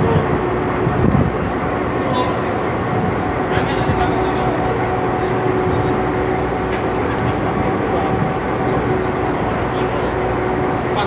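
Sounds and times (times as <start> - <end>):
ship engines droning: 0.0 - 11.0
wind and sea rushing: 0.0 - 11.0.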